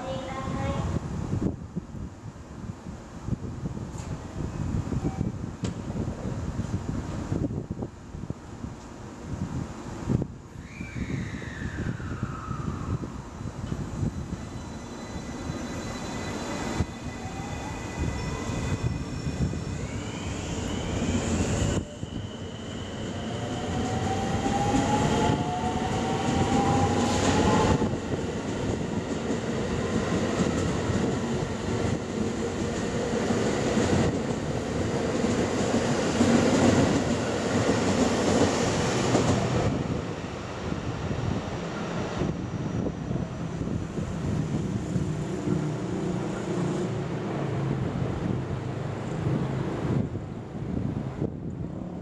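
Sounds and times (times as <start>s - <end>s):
train wheels rumbling on rail: 3.4s - 7.9s, 11.5s - 52.0s.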